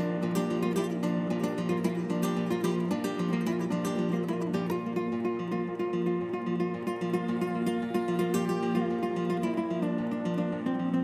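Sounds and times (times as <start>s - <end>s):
fingerpicked acoustic guitar: 0.0s - 11.0s.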